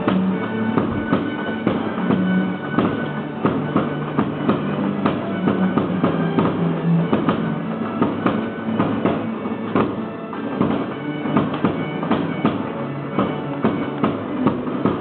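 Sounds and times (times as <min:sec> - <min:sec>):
held droning tones: 0:00.0 - 0:15.0
sharp percussive strikes: 0:00.0 - 0:15.0.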